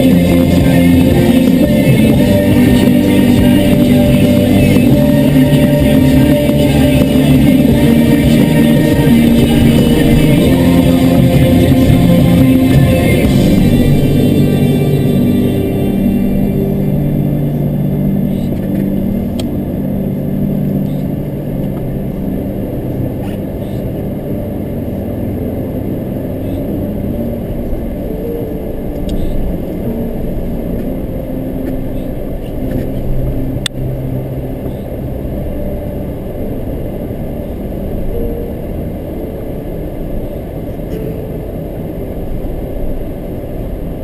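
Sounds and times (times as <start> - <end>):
vehicle engine rumbling: 0.0 - 44.0.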